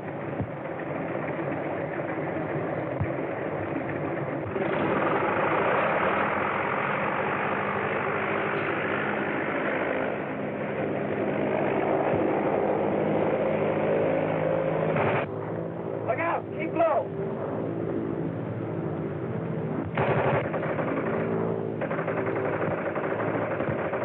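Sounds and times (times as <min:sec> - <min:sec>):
muffled engine drone: 0:00.0 - 0:24.0.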